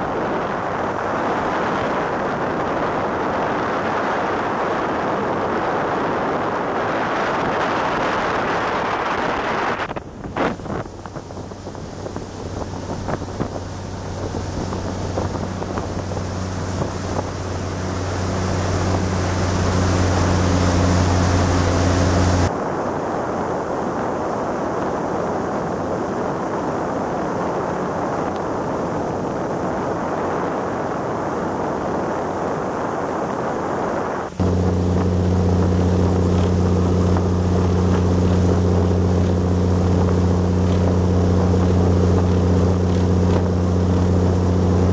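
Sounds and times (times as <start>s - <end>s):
boat diesel engine drone: 0.0s - 22.5s, 29.4s - 44.9s
wake rushing water: 0.0s - 44.9s
wind: 0.0s - 44.9s.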